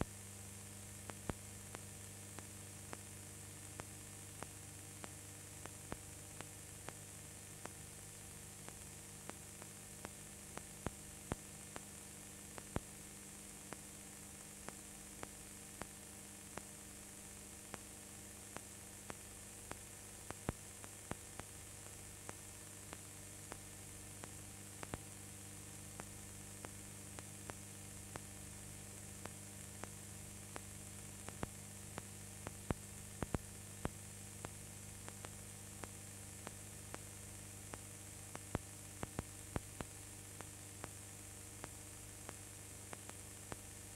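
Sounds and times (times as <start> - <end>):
electrical mains hum: 0.0 - 43.9.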